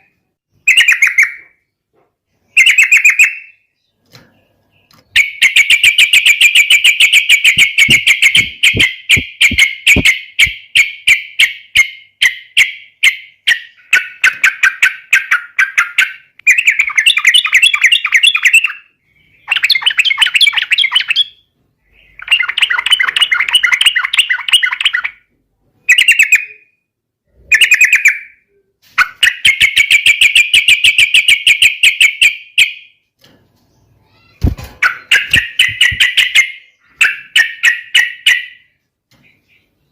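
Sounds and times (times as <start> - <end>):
bird chattering song: 0.0 - 1.8, 2.4 - 26.8, 33.7 - 39.9.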